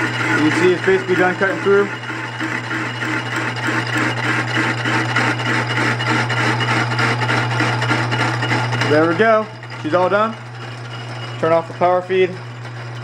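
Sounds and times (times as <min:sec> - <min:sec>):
hole saw rasping into metal tube: 0:00.0 - 0:13.0
lathe humming: 0:00.0 - 0:13.0.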